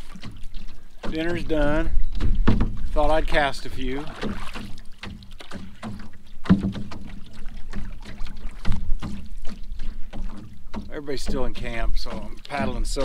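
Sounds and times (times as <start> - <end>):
paddle knocks: 0.0 - 13.0
water splashing against canoe hull: 0.0 - 13.0.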